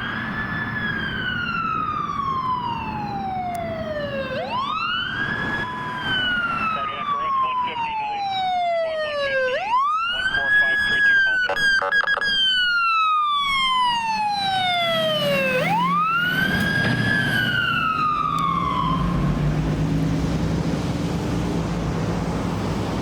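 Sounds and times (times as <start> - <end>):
vehicle engine and road noise: 0.0 - 10.8, 11.6 - 23.0
siren wailing: 0.0 - 23.0.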